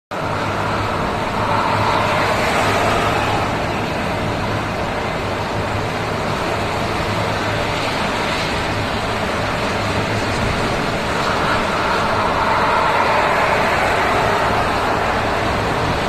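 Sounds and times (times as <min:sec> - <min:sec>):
low engine hum: 0:00.1 - 0:16.0
vehicle road noise: 0:00.1 - 0:16.0.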